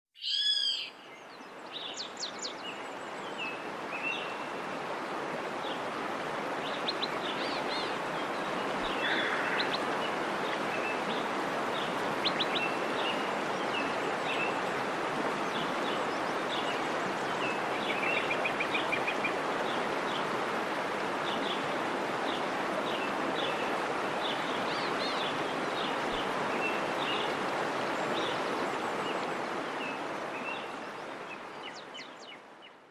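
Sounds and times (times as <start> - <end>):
waterfall rushing: 1.7 - 31.8.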